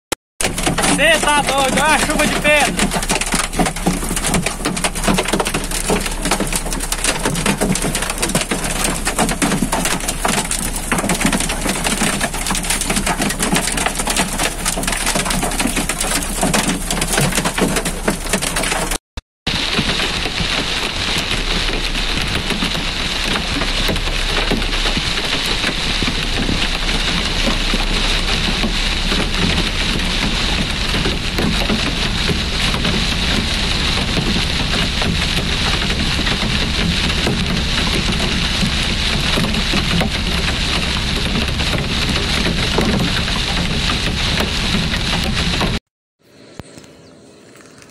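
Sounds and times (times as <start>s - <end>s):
hail drumming on a car roof: 0.4s - 45.8s
heavy rain and hail falling: 0.4s - 45.8s.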